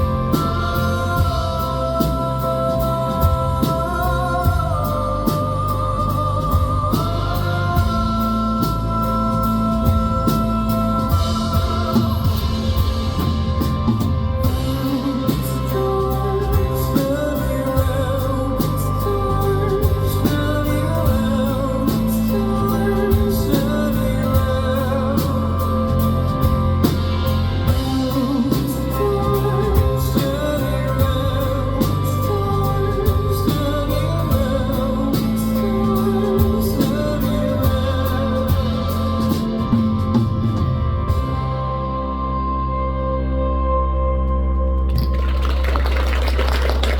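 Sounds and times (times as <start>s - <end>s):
steady drum beat: 0.0s - 41.5s
live band with singing: 0.0s - 46.9s.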